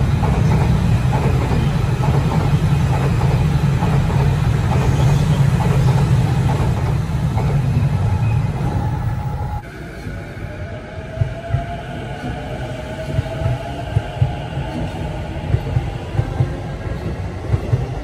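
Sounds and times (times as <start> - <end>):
train passing with low rumble: 0.0 - 18.0.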